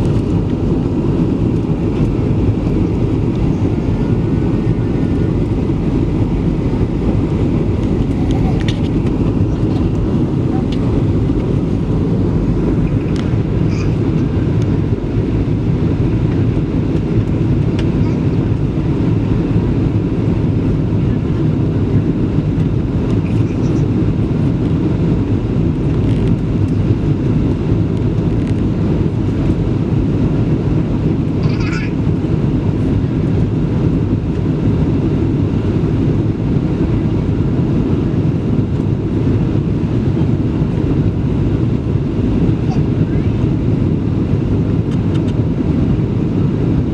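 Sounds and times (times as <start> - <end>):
airliner cabin rumble: 0.0 - 46.9.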